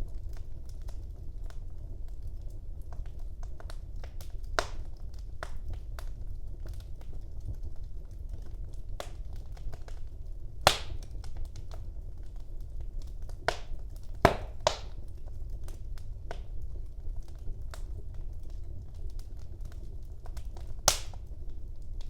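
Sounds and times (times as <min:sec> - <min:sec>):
fire crackling and popping: 0:00.0 - 0:22.0
fire rumbling in fireplace: 0:00.0 - 0:22.0.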